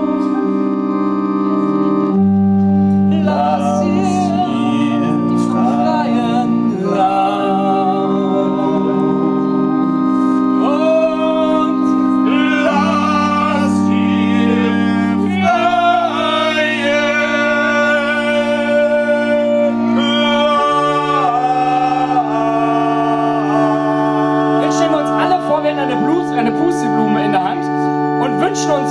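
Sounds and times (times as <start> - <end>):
electric keyboard organ chords: 0.0 - 28.9
person singing wordless melody: 0.0 - 28.9.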